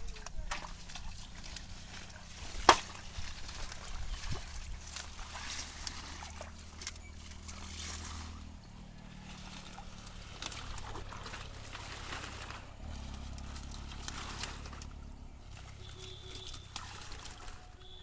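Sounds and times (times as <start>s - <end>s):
low steady hum: 0.0s - 18.0s
pond water splashing: 0.0s - 18.0s.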